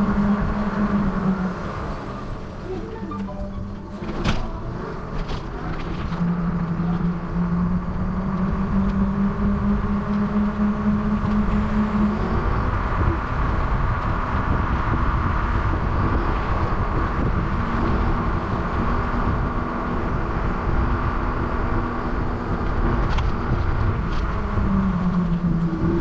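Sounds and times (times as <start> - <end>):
wind and road noise: 0.0 - 26.0.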